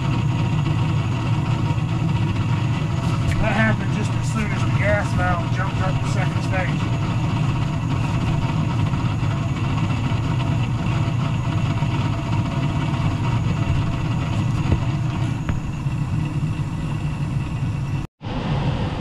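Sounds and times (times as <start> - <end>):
furnace draft motor humming: 0.0 - 19.0.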